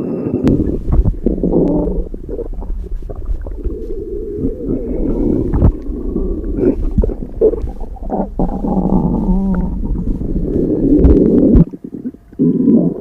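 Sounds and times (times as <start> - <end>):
stomach growling and gurgling: 0.2 - 13.0.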